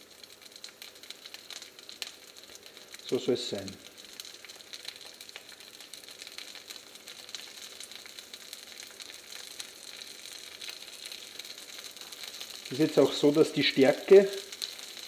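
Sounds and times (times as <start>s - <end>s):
prawns sizzling in hot oil: 0.0s - 15.0s.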